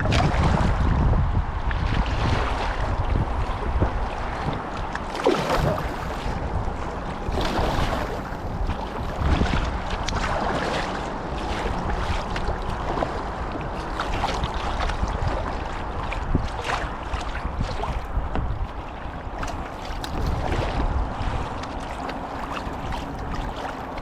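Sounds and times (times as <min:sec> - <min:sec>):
wind buffeting microphone: 0:00.0 - 0:24.0
paddle strokes splashing in water: 0:01.7 - 0:24.0.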